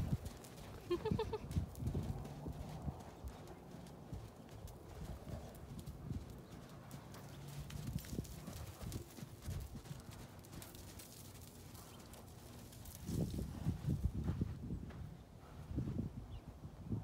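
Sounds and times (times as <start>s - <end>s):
horse hooves thudding on sand: 0.0s - 16.0s.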